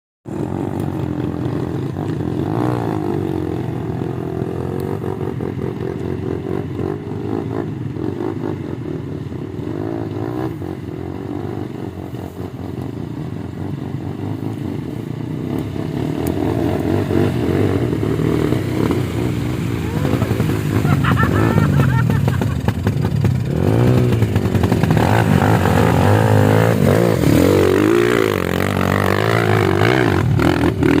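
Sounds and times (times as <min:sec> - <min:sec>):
engine running: 0:00.3 - 0:31.0.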